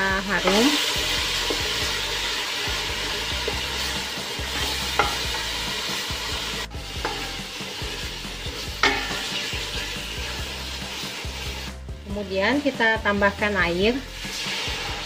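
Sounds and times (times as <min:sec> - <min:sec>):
spice paste sizzling in oil: 0:00.0 - 0:15.0.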